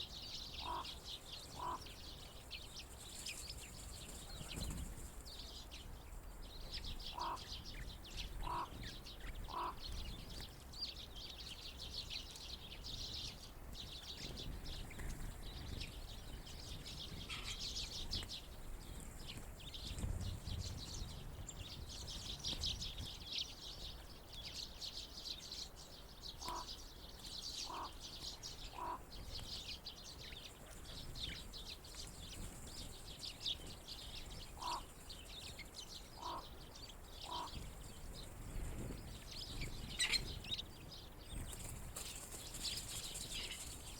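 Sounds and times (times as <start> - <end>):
birds chirping and twittering: 0.0 - 43.9.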